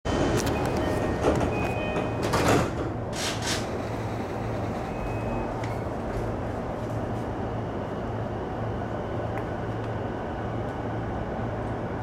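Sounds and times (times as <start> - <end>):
train running low rumble: 0.1 - 12.0.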